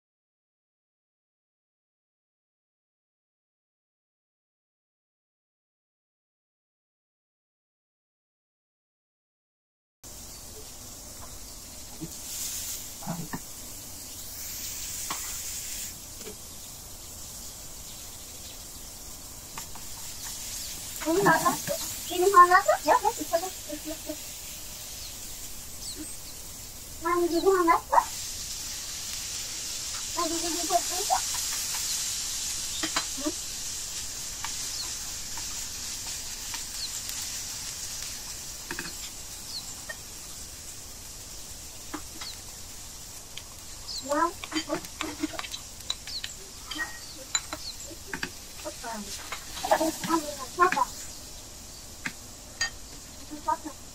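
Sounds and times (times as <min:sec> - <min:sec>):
vegetables sizzling in oil: 0:10.1 - 0:53.9.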